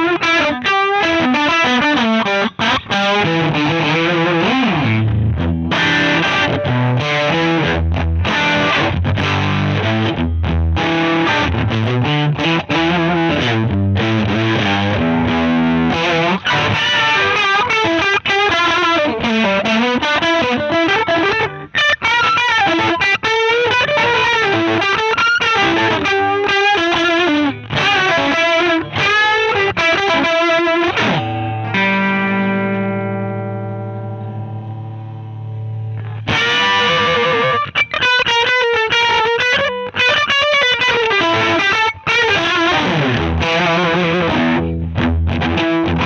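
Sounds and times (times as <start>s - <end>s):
distorted electric guitar: 0.0s - 46.0s.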